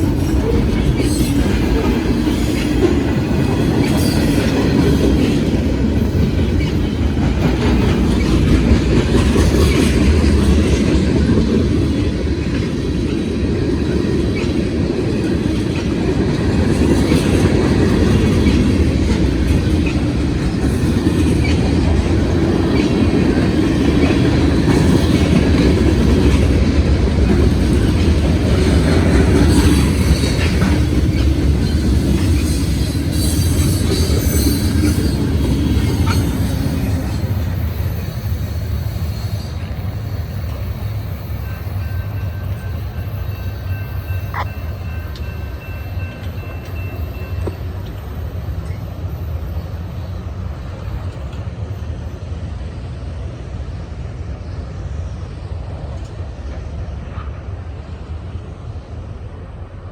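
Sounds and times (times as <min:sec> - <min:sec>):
train wheels clacking on rails: 0:00.0 - 0:53.2, 0:55.4 - 0:58.6.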